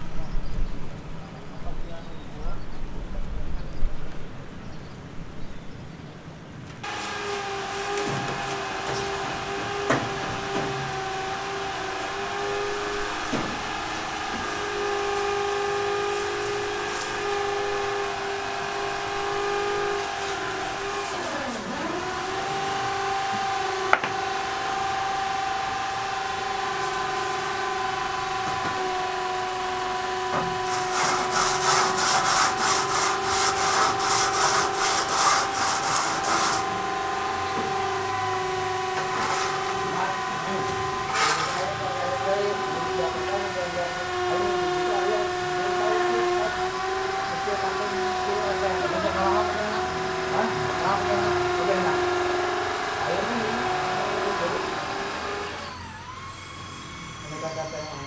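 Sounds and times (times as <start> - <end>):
rasping strokes: 6.8 - 55.8
machine humming: 6.8 - 57.4.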